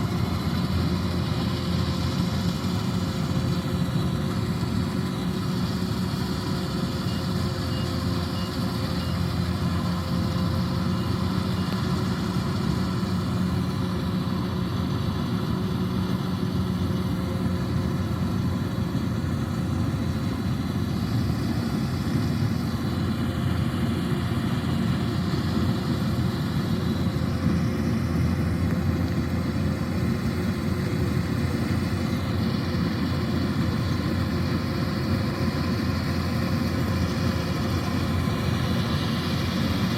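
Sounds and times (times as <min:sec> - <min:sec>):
diesel engine humming: 0:00.0 - 0:39.9
faint steady whine: 0:00.0 - 0:39.9.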